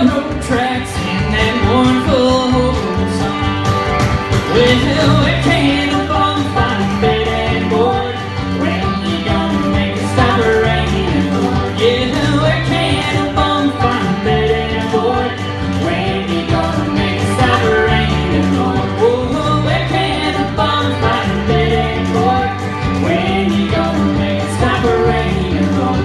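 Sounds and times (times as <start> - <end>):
woman singing: 0.0 - 3.7, 4.5 - 26.0
live country band: 0.0 - 26.0.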